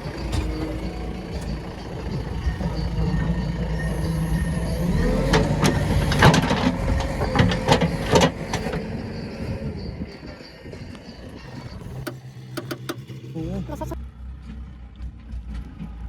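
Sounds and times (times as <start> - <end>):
metallic knocks and clanks: 0.0 - 14.0
diesel engine running: 0.0 - 16.0.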